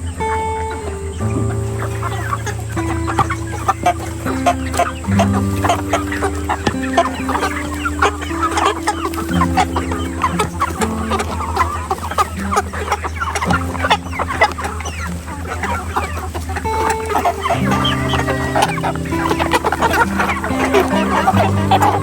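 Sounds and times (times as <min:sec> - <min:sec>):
background music: 0:00.0 - 0:22.0
chickens clucking: 0:00.0 - 0:22.0.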